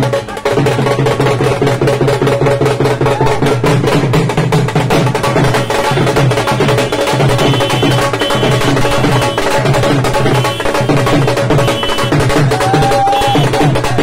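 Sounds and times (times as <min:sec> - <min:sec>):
barrel drum fast rhythm: 0:00.0 - 0:14.0.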